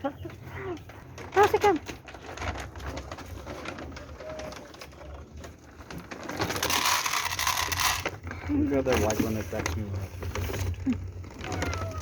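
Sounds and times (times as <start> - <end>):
dry cat food rattling: 1.0 - 12.0.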